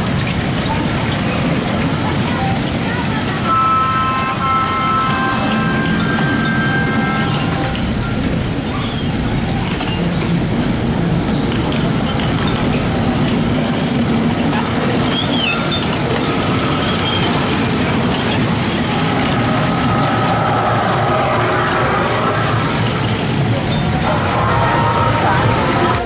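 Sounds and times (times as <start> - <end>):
ride wheels rumbling on track: 0.0 - 26.0.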